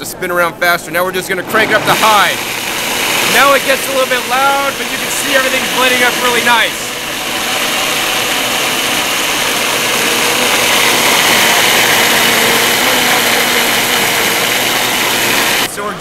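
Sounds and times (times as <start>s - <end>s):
blender whirring: 1.2s - 15.7s.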